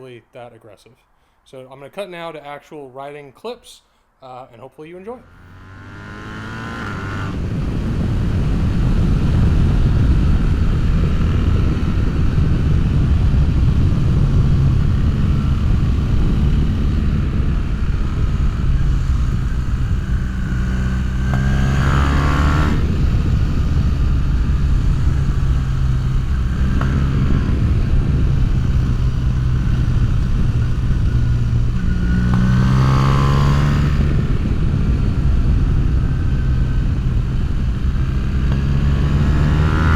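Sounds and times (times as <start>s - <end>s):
motorcycle engine running: 5.2s - 39.9s
rush of road noise: 5.2s - 39.9s.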